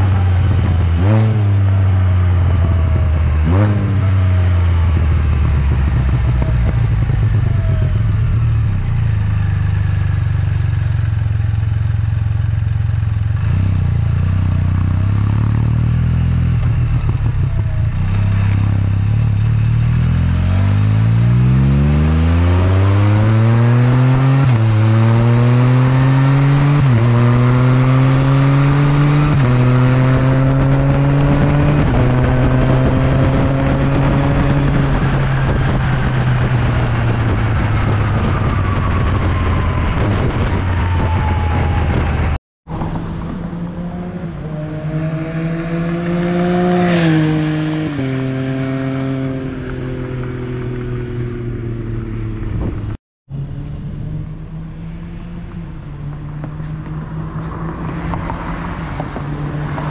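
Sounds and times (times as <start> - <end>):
three-wheeler engine accelerating: 0.0 - 59.9.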